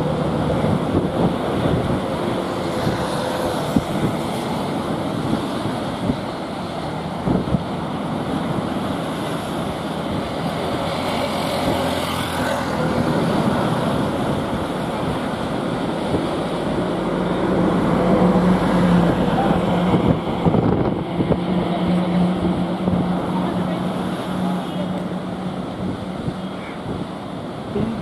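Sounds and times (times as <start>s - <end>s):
diesel locomotive engine drone: 0.0s - 28.0s
wind buffeting microphone: 0.0s - 28.0s.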